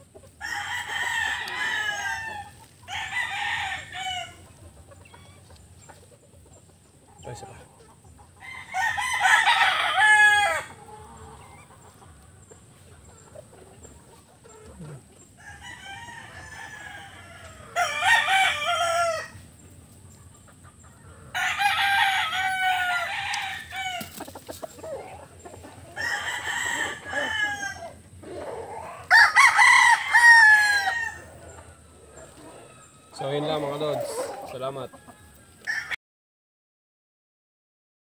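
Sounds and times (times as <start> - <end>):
roosters crowing: 0.0 - 36.0.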